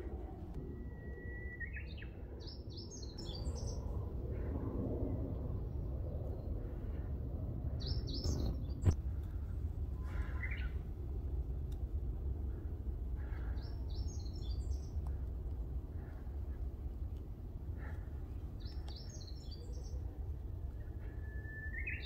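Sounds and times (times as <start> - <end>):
songbirds chirping: 0.0 - 4.6, 5.2 - 22.0
steady low rumble: 0.0 - 21.8.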